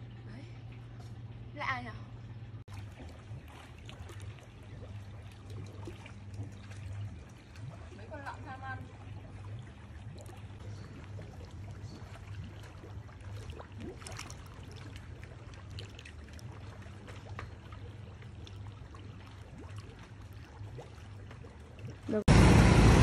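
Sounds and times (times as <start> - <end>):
water trickling in a pond: 0.0 - 22.3.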